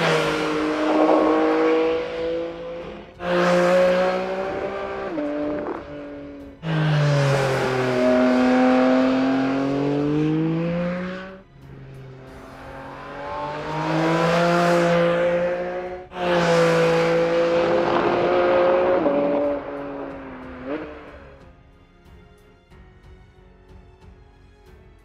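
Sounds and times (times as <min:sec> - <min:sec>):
car engine at high revs: 0:00.0 - 0:21.4.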